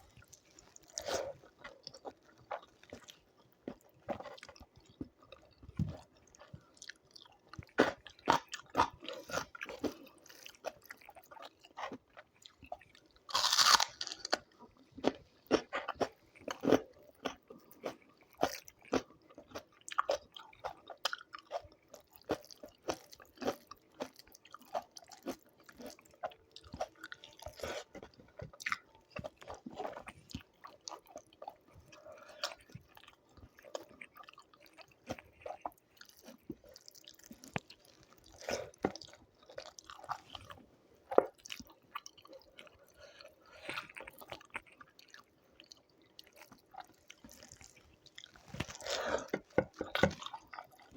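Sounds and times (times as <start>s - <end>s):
person crunching and chewing food: 0.0s - 50.9s.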